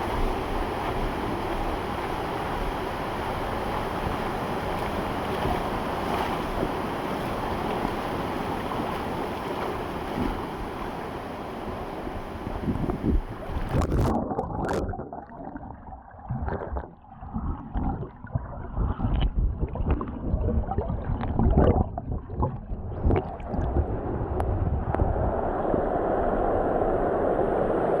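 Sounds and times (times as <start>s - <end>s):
stream water sloshing and gurgling: 0.0s - 26.4s.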